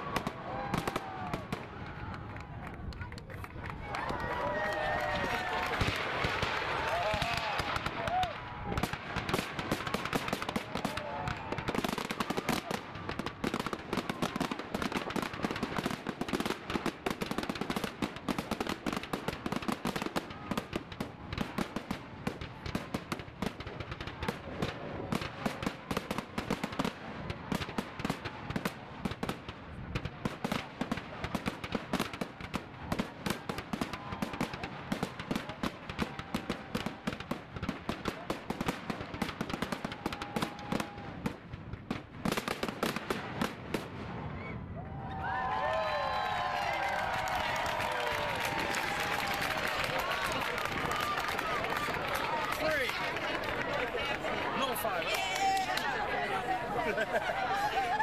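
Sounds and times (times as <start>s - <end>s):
fireworks crackling: 0.0s - 44.5s, 45.2s - 58.0s.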